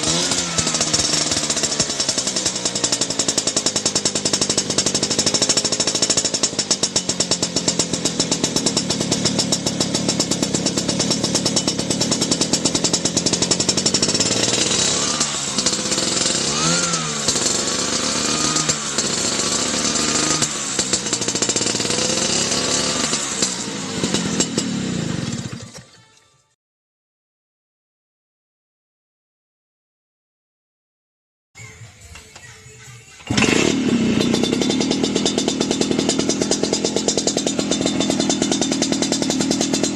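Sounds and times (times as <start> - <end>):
scooter engine idling and revving: 0.0 - 25.9, 31.6 - 39.9.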